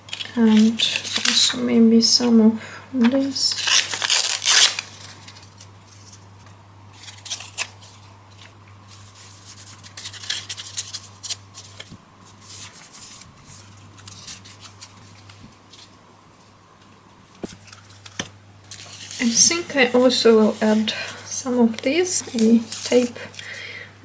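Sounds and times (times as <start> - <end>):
paper rustling: 0.0 - 2.4, 3.0 - 23.6.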